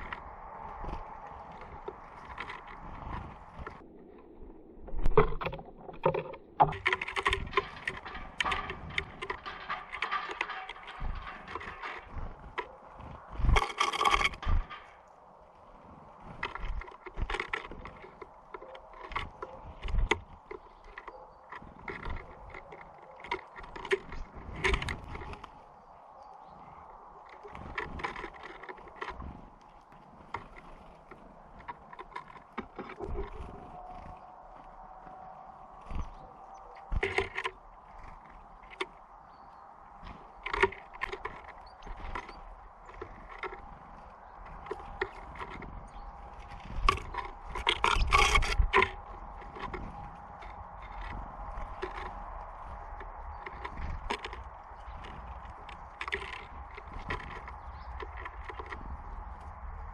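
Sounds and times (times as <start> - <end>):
birds pecking on a feeder: 0.0 - 59.9.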